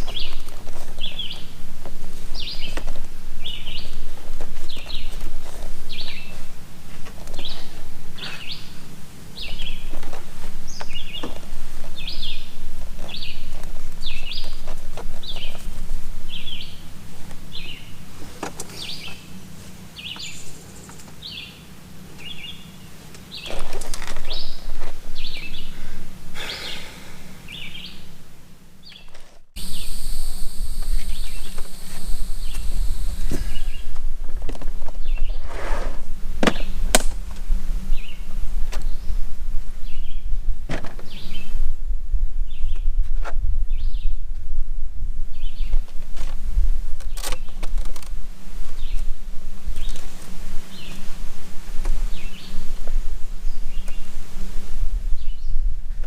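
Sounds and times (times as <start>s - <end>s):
bird chirping: 0.0s - 35.5s, 36.5s - 40.4s, 41.0s - 41.7s, 43.7s - 44.2s, 45.3s - 45.9s, 48.7s - 51.2s, 51.8s - 54.2s
steady high whine: 0.0s - 56.0s
steady low hum: 0.0s - 56.0s.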